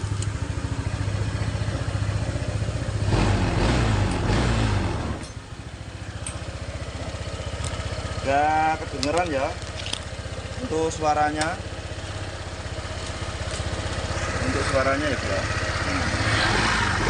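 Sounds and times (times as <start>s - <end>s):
scooter engine idling and revving: 0.0s - 17.0s.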